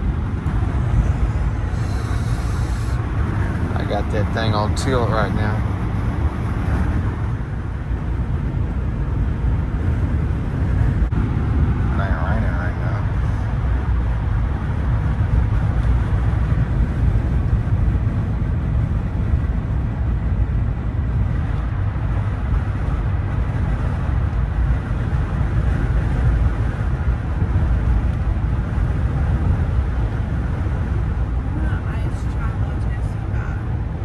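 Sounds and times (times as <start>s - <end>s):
truck road and engine rumble: 0.0s - 34.0s.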